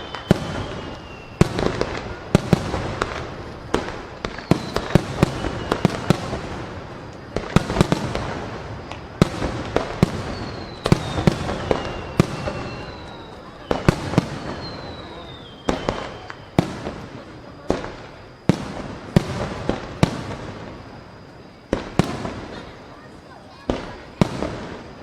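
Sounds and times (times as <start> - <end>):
descending firework whistles: 0.0 - 25.0
fireworks bangs: 0.0 - 25.0
fireworks crackling: 0.0 - 25.0.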